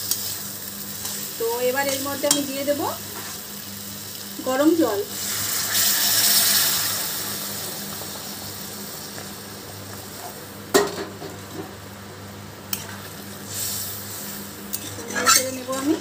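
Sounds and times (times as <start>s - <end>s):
faint hiss from pan: 0.0s - 11.7s, 12.6s - 16.0s.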